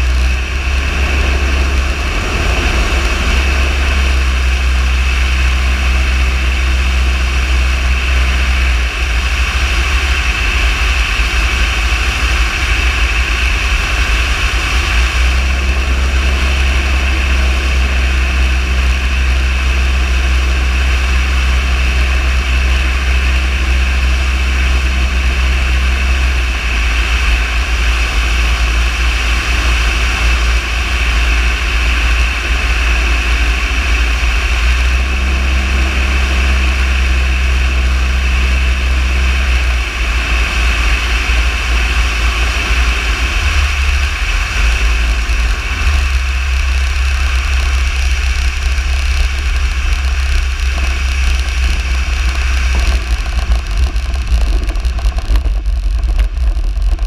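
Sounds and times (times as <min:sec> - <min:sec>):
aircraft engine and propeller drone: 0:00.0 - 0:57.0
deeper hum: 0:00.0 - 0:57.0.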